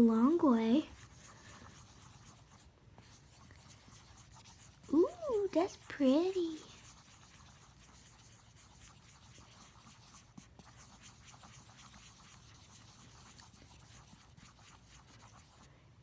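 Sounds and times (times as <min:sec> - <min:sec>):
pencil scratching and scraping slime: 0:00.0 - 0:15.7.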